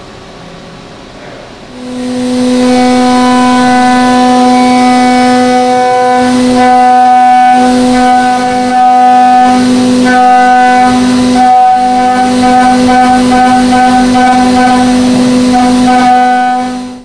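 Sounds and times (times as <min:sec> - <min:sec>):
end mill cutting aluminum whine: 0:01.7 - 0:17.0.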